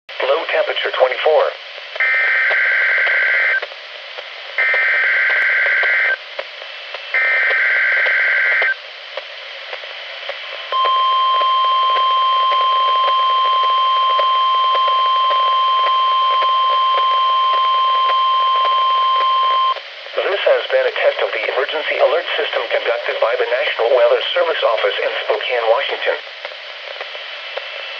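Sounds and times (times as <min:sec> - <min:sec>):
radio hiss: 0:00.1 - 0:27.9.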